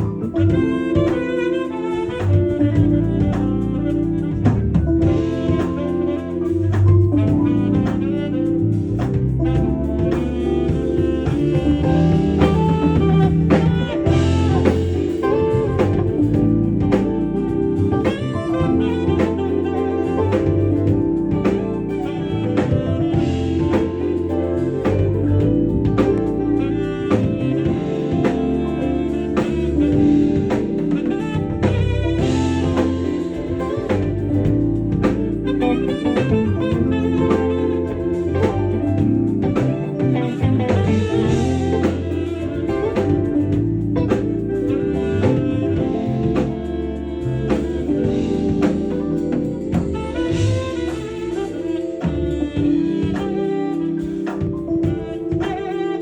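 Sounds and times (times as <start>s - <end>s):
bass line: 0.0s - 56.0s
drum kit: 0.0s - 56.0s
saxophone lead: 0.0s - 56.0s.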